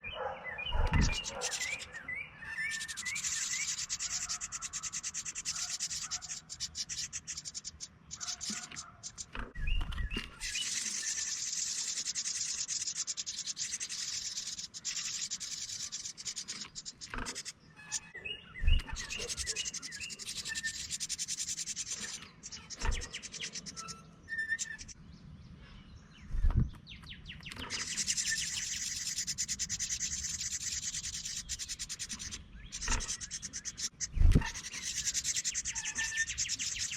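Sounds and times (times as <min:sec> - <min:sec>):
adult bird chirps: 0:00.0 - 0:25.0, 0:26.2 - 0:36.9
nestlings begging calls: 0:00.0 - 0:25.0, 0:27.2 - 0:36.9.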